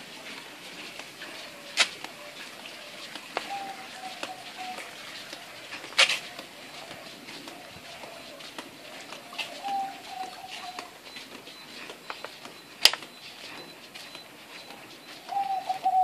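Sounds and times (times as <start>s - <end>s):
footsteps on concrete: 0.0s - 16.0s.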